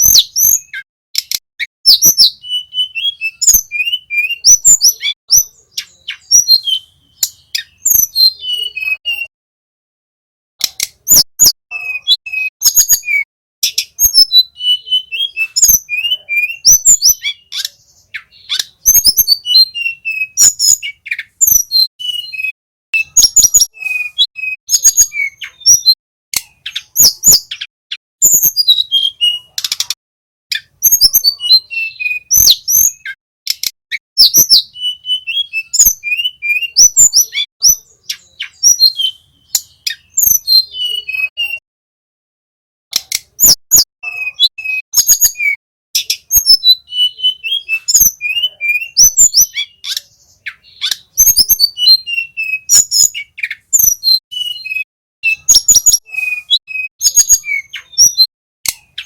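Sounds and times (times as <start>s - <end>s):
small bird singing chirps: 0.0s - 9.3s, 10.6s - 41.6s, 42.9s - 59.0s.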